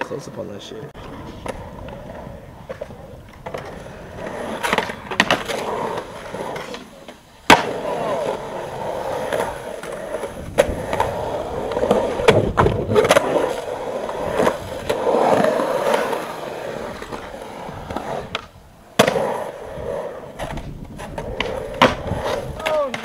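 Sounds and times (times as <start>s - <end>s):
skateboard wheels rolling on concrete: 0.0s - 23.0s
skateboard clacks and knocks: 1.0s - 16.3s, 16.9s - 23.0s.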